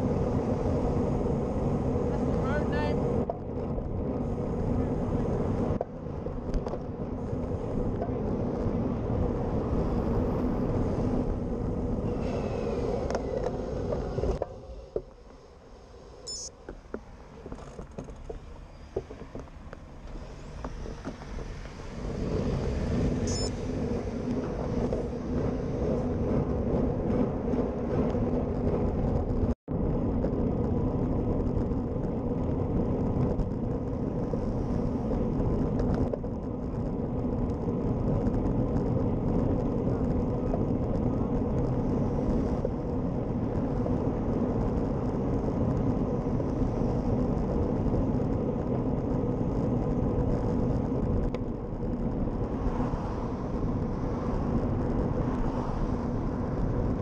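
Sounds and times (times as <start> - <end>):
bike tyre and road rumble: 0.0 - 57.0
wind rush on camera: 0.0 - 57.0.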